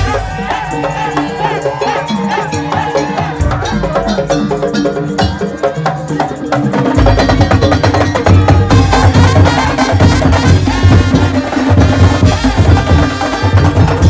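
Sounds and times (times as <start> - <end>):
bell-like metal percussion: 0.0 - 14.0
pitched melodic notes: 0.0 - 14.0.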